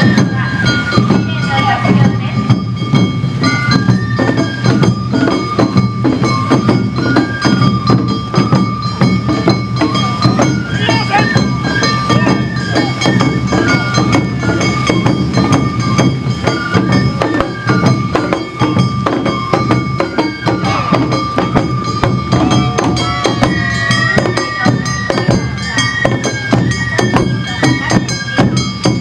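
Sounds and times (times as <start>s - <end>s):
drums and gongs in rhythm: 0.0s - 29.0s
high flute melody: 0.0s - 29.0s.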